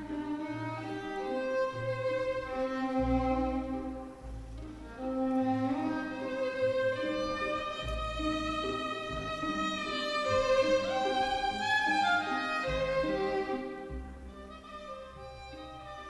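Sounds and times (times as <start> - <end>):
orchestral music with violin: 0.0 - 16.0.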